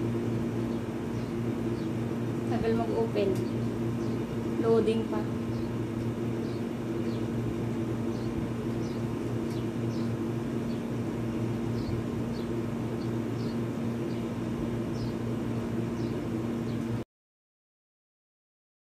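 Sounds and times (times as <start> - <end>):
appliance humming: 0.0 - 17.0.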